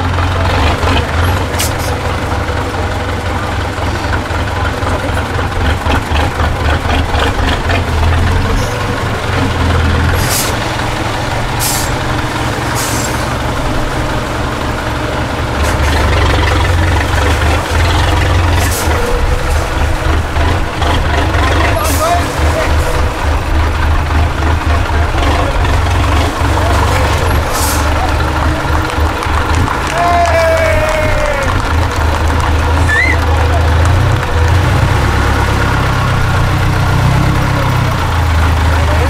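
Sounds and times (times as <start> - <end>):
diesel truck engine rumbling: 0.0 - 39.0.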